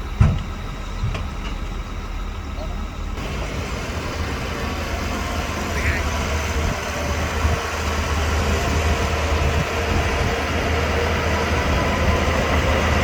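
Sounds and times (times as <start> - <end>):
bulldozer diesel engine humming: 0.0 - 13.0.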